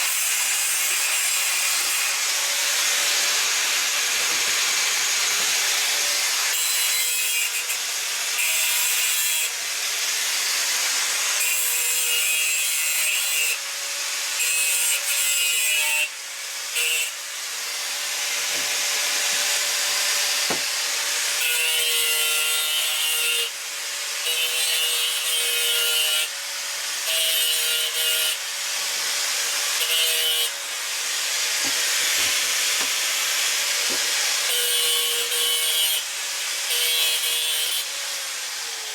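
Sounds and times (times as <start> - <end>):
power grinder grinding steel: 0.0 - 38.9.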